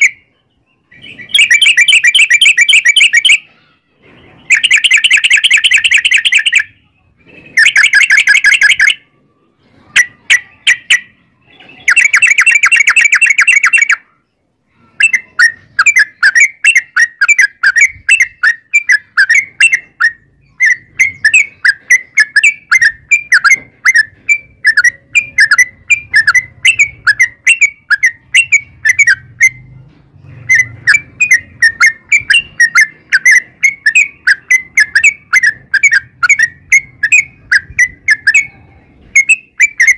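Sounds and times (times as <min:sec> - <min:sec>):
quick chirping notes: 0:00.0 - 0:03.5, 0:04.4 - 0:09.1, 0:11.8 - 0:39.9
bird singing rapid trills: 0:00.0 - 0:06.8, 0:07.5 - 0:09.1, 0:09.7 - 0:29.7, 0:30.3 - 0:39.9.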